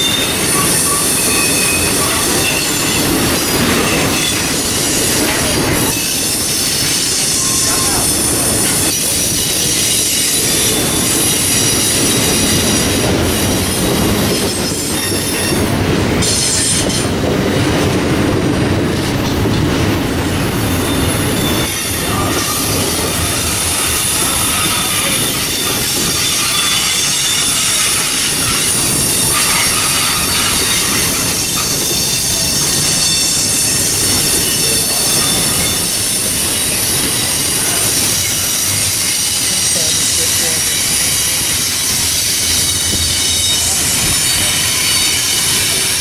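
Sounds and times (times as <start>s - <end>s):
train wheels rumbling and clattering: 0.0s - 46.0s.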